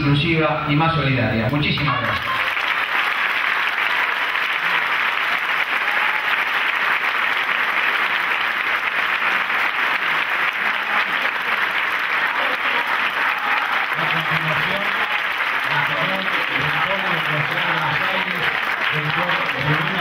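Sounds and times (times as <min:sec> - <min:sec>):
audience applauding: 0:01.4 - 0:20.0.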